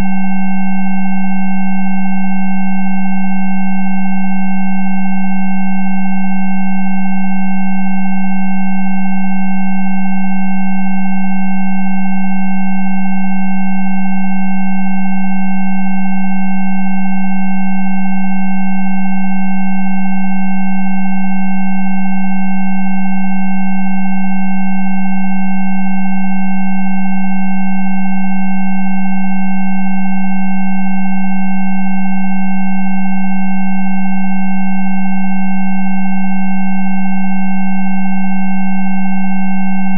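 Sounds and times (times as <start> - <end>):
steady electronic sine tones: 0.0 - 39.9.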